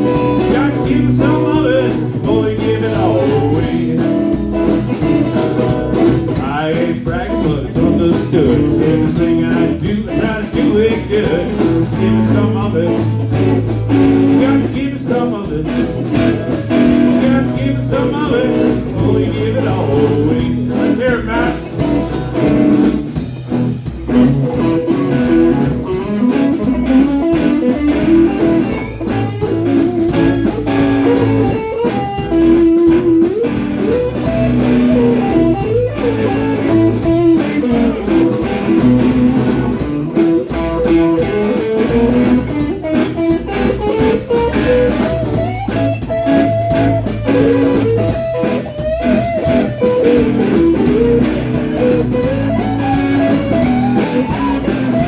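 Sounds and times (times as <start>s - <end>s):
bass guitar: 0.0s - 55.0s
drums: 0.0s - 55.0s
electric guitar solo with bent notes: 0.0s - 55.0s.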